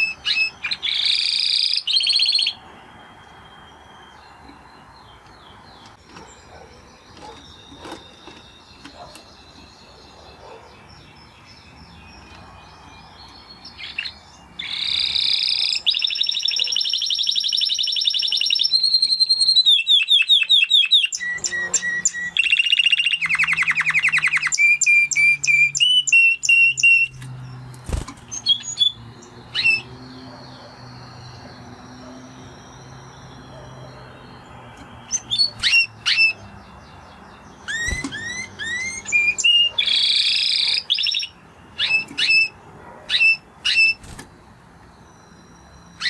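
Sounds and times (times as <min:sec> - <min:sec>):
canary singing trills: 0:00.0 - 0:46.0.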